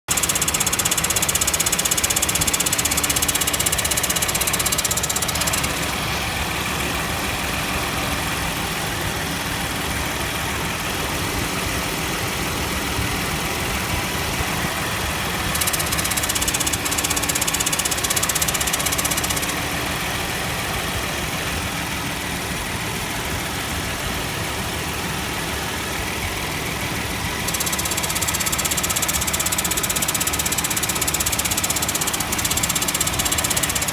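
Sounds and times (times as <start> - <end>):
engine hum: 0.0 - 33.9.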